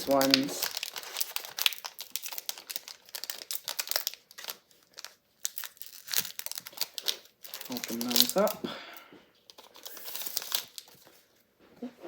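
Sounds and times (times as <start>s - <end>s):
plastic wrapper crinkling and tearing: 0.0s - 8.6s, 9.5s - 11.2s.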